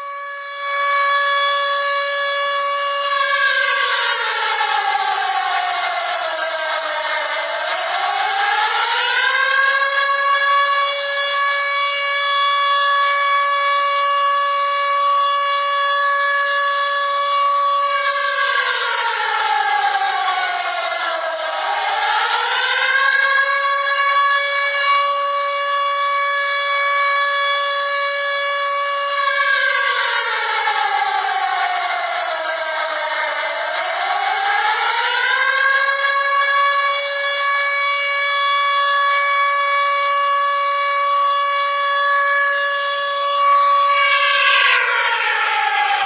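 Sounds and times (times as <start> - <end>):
civil defense siren: 0.0 - 46.0.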